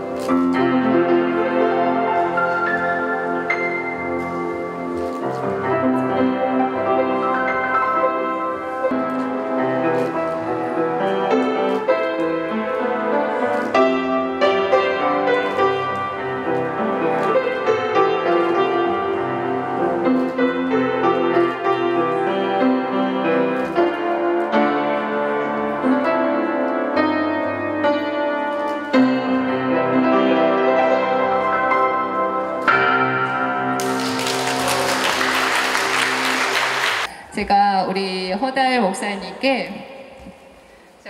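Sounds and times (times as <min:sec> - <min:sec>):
grand piano playing: 0:00.0 - 0:37.1.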